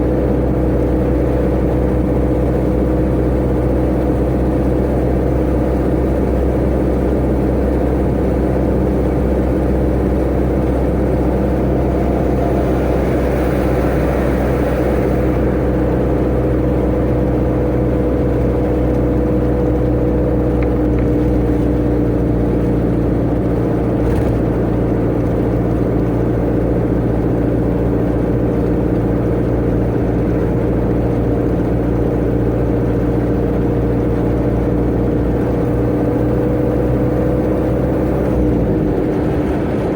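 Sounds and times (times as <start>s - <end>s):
road and tyre noise: 0.0s - 39.9s
truck engine drone: 0.0s - 39.9s.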